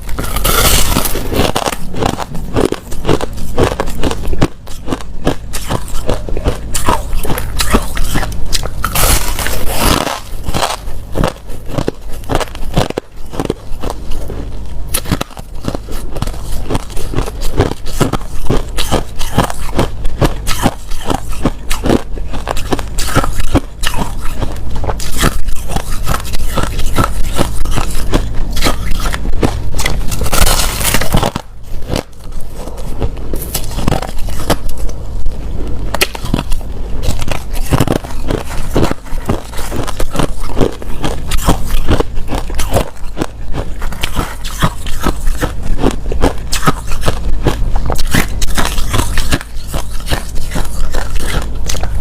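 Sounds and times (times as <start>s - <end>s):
crushed ice being chewed: 0.0s - 52.0s.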